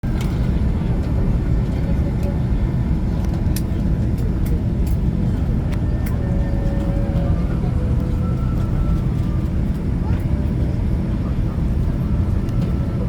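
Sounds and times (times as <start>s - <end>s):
aircraft cabin low rumble: 0.0s - 13.0s.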